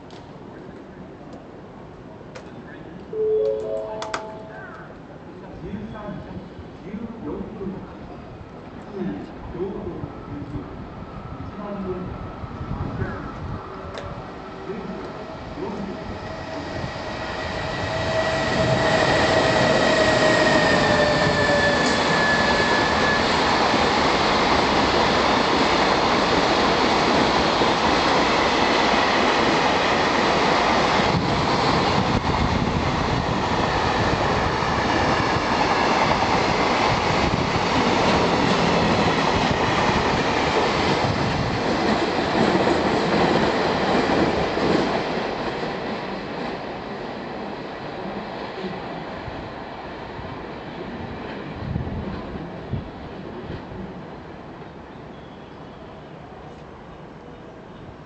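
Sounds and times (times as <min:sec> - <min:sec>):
electric locomotive whine: 0:02.9 - 0:06.8, 0:09.4 - 0:58.0.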